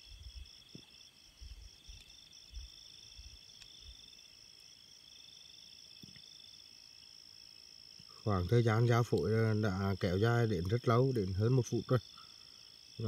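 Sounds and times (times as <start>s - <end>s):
insect high-pitched trill: 0.0s - 13.0s
insect lower pulsing trill: 0.0s - 13.0s.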